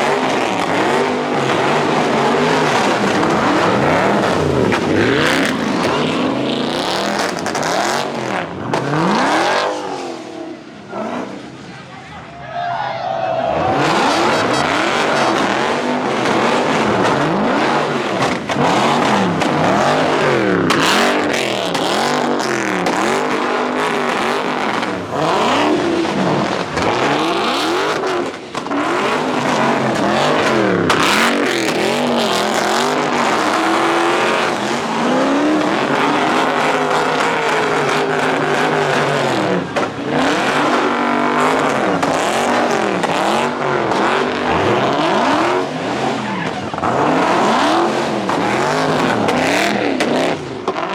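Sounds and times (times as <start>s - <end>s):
car engine revving: 0.0s - 11.7s, 13.2s - 50.9s.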